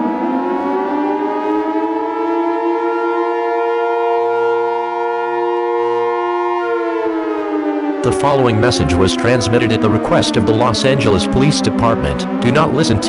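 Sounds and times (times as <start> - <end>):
multi-tone siren: 0.0 - 13.0.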